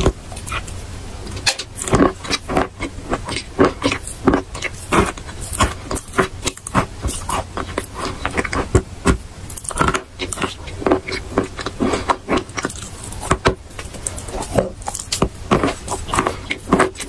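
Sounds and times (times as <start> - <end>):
chalk crunching as chewed: 0.0 - 17.0.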